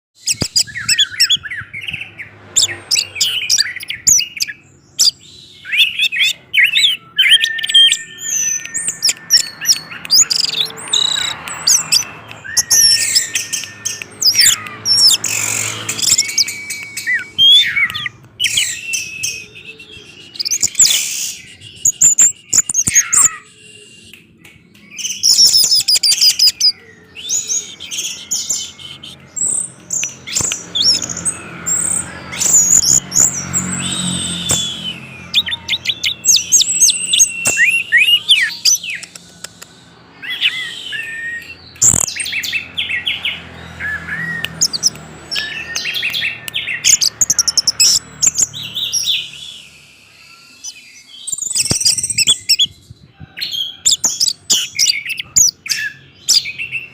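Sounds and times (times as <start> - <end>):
thrush singing whistled phrases: 0.2 - 52.7.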